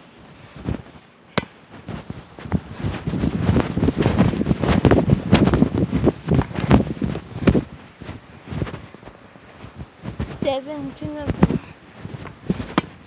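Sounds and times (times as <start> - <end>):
microphone handling rustle: 0.0 - 13.0.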